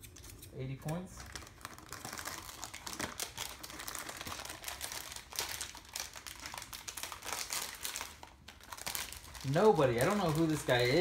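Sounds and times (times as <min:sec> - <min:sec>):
foil packs crinkling: 0:00.9 - 0:11.0.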